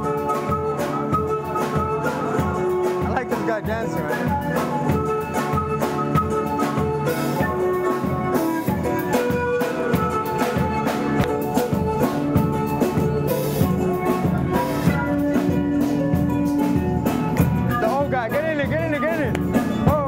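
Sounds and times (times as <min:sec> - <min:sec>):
instrumental melody with drums: 0:00.0 - 0:20.0.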